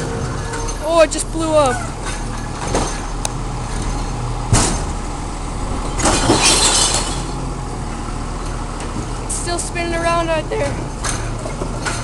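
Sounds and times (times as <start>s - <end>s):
steady low rumble: 0.8s - 11.0s.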